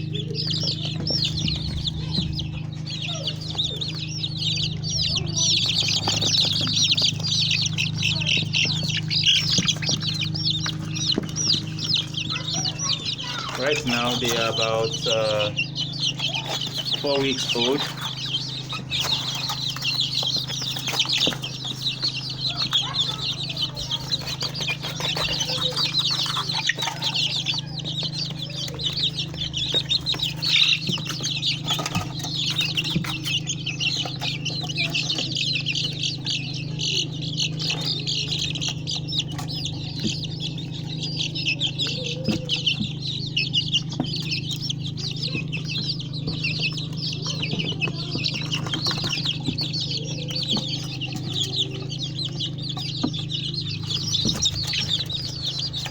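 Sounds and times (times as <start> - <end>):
chicks peeping: 0.0 - 55.9
steady low hum: 0.0 - 55.9.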